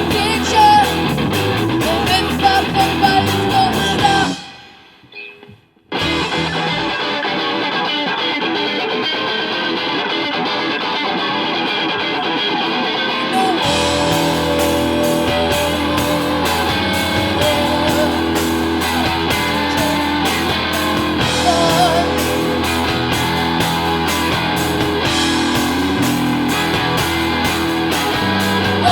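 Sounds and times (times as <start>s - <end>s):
bass guitar: 0.0s - 4.7s, 5.9s - 28.9s
drums: 0.0s - 10.6s, 11.6s - 28.9s
distorted electric guitar: 0.0s - 28.9s.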